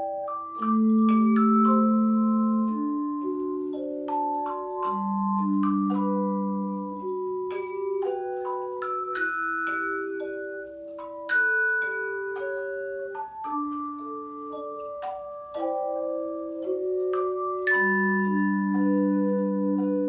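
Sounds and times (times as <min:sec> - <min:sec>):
handchimes playing slow melody: 0:00.0 - 0:20.0.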